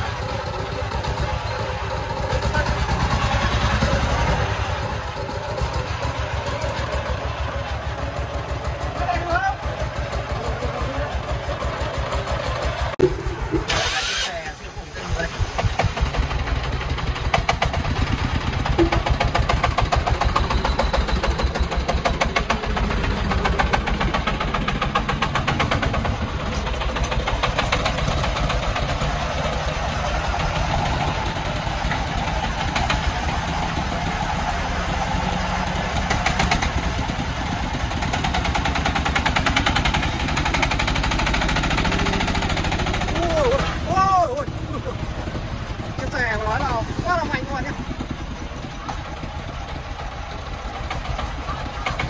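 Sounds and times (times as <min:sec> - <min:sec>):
diesel engine knocking: 0:00.0 - 0:52.0.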